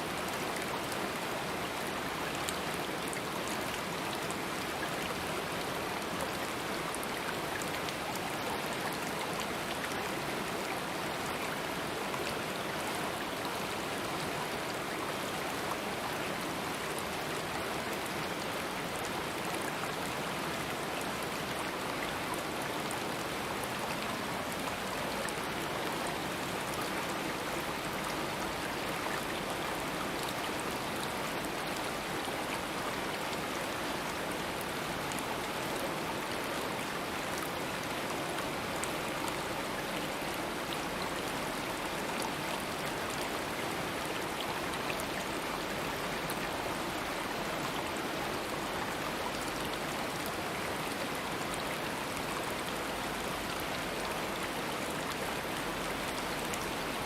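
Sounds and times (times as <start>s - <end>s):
stream water running over rocks: 0.0s - 57.0s.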